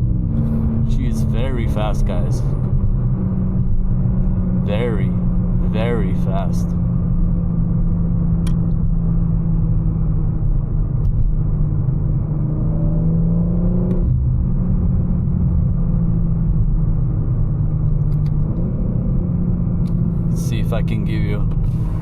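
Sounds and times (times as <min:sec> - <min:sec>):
car engine drone: 0:00.0 - 0:22.0
road rumble inside car: 0:00.0 - 0:22.0.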